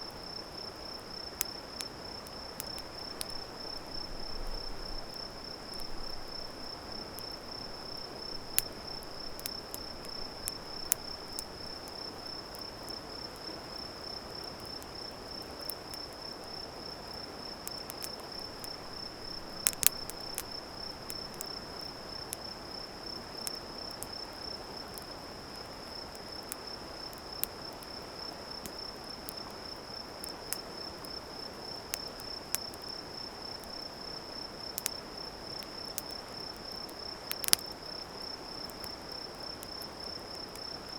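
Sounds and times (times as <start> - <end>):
campfire crackling and popping: 0.1 - 40.9.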